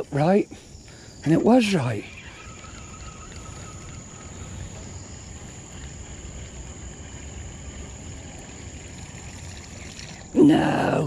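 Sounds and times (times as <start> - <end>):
high insect buzz: 0.0 - 11.0
small boat engine rumble: 0.0 - 11.0.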